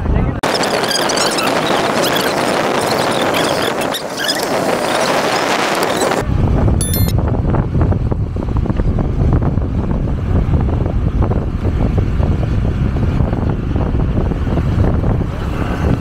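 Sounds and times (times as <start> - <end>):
motorcycle engine and road noise: 0.0 - 16.0
wind buffeting microphone: 0.0 - 16.0.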